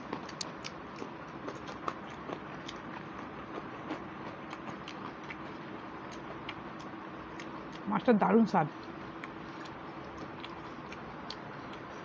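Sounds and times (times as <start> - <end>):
chewing and lip smacks: 0.0 - 7.9, 8.7 - 12.0.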